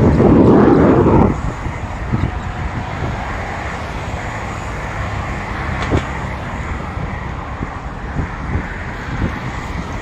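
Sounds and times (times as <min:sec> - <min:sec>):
bicycle road noise: 0:00.0 - 0:10.0
rushing wind: 0:00.0 - 0:10.0.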